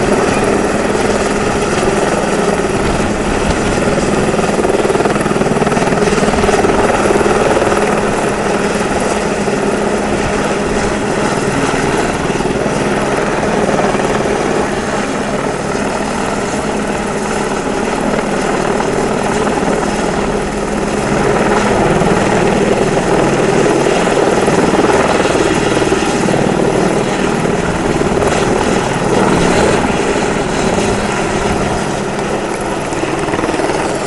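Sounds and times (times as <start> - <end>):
helicopter rotor and turbine roar: 0.0 - 34.0.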